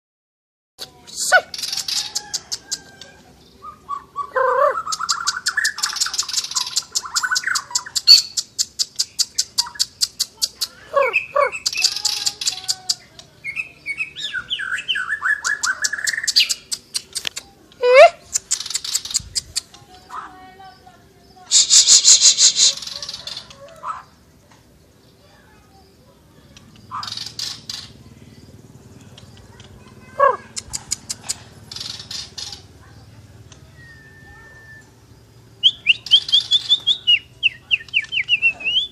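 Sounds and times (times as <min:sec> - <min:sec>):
songbird singing: 0:00.8 - 0:38.9.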